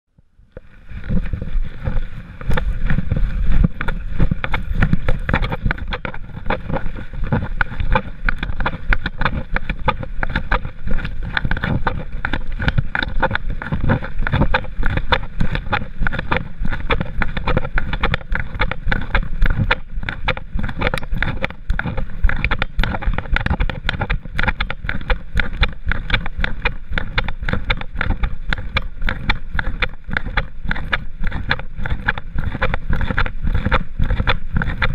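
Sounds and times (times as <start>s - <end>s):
camera handling rumble: 0.5s - 34.9s.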